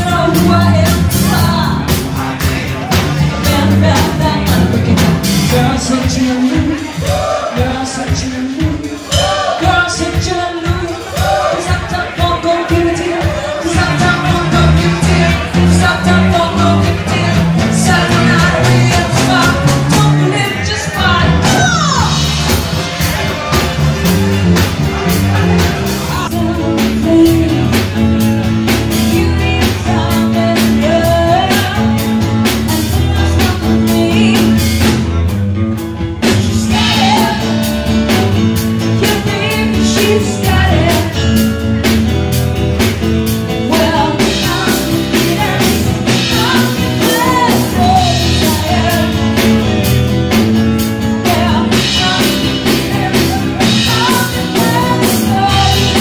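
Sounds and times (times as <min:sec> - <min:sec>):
woman singing: 0:00.0 - 0:02.5, 0:03.3 - 0:22.3, 0:26.1 - 0:28.0, 0:28.7 - 0:34.9, 0:36.5 - 0:41.5, 0:43.6 - 0:49.8, 0:51.0 - 0:56.0
bass guitar: 0:00.0 - 0:56.0
drum kit: 0:00.0 - 0:56.0
electric guitar: 0:00.0 - 0:56.0.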